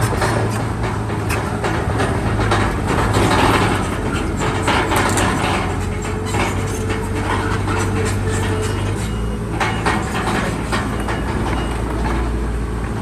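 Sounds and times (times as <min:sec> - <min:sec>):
diesel engine running: 0:00.0 - 0:13.0
steel tracks clanking: 0:00.0 - 0:13.0.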